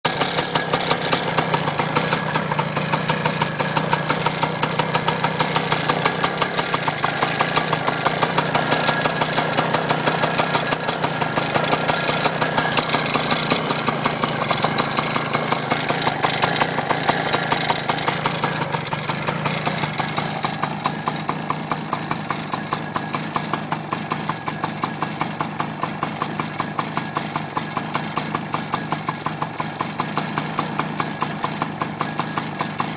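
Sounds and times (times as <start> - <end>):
two-stroke engine idling with rattle: 0.0 - 32.9.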